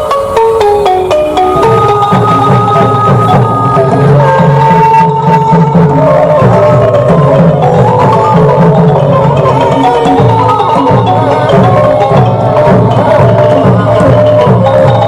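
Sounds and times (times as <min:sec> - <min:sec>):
pitched percussion melody: 0:00.0 - 0:15.0
steady drum beat: 0:00.0 - 0:15.0.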